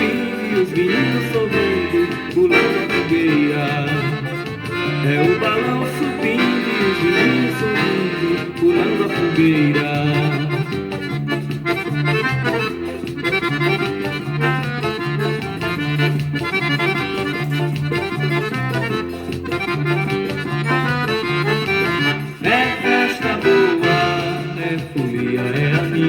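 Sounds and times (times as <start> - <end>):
accordion playing folk melody: 0.0 - 26.0
pulsing bass line: 0.0 - 26.0.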